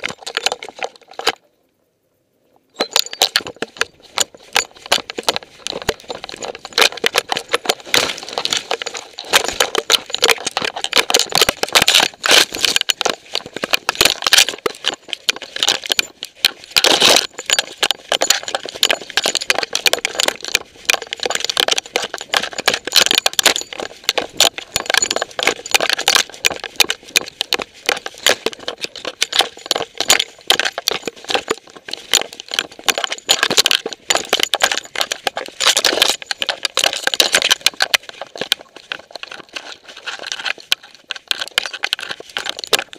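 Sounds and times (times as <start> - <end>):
camera rattling and knocking: 0.0 - 1.4, 2.8 - 42.9.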